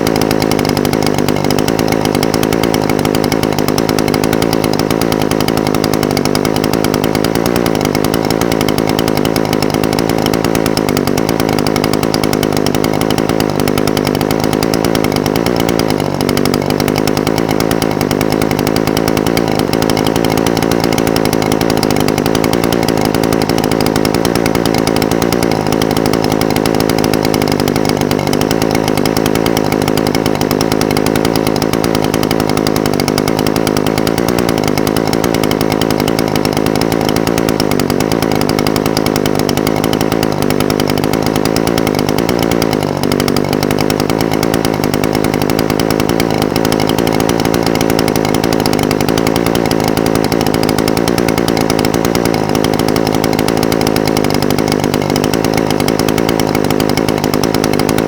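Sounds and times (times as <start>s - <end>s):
brush cutter engine idling: 0.0s - 58.0s.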